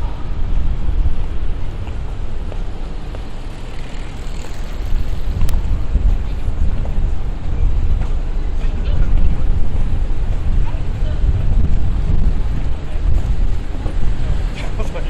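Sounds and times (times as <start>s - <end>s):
traffic noise: 0.0s - 15.0s
wind buffeting microphone: 0.0s - 15.0s.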